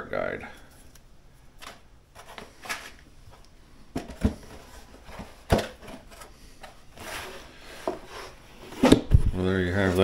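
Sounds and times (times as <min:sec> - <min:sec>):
rustling and soft scraping: 0:00.6 - 0:10.0.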